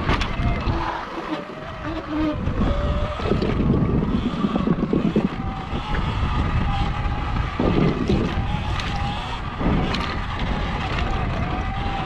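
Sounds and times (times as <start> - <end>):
electric motor whine: 0.0 - 12.0
tyres rumbling on dirt: 0.0 - 12.0
wind buffeting microphone: 0.0 - 12.0.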